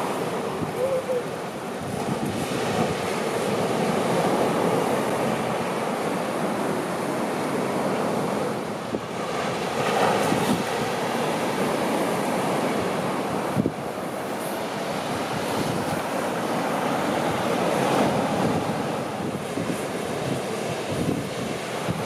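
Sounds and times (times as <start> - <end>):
wind buffeting microphone: 0.0 - 5.8, 8.0 - 22.0
surf washing onto beach: 0.0 - 22.0.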